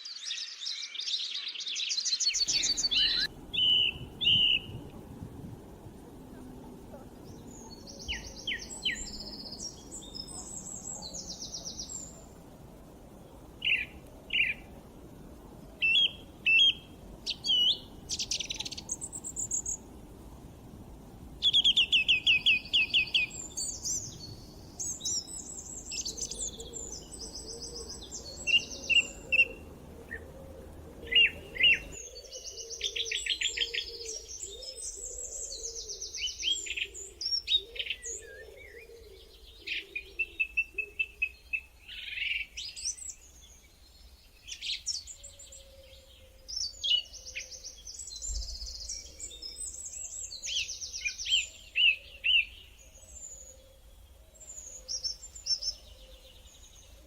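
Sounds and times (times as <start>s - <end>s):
wild birds singing: 0.0s - 57.0s
soft low background rush: 2.4s - 57.0s.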